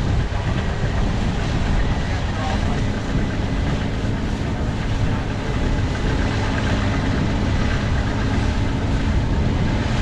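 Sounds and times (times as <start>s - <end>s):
heavy machinery engine running: 0.0s - 10.0s.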